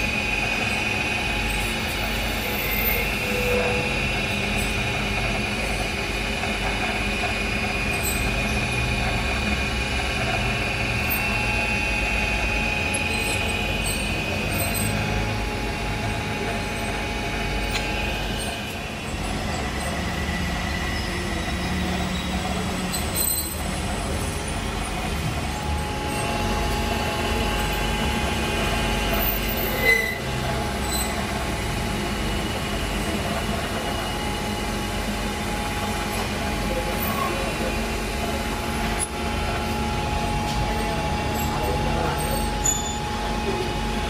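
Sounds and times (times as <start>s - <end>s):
metal lathe humming: 0.0s - 44.0s.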